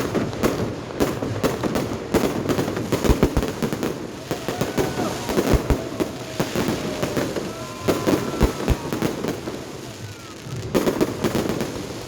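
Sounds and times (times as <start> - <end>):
fireworks bursts and crackling bangs: 0.0 - 12.0
fireworks whistling: 2.2 - 12.0.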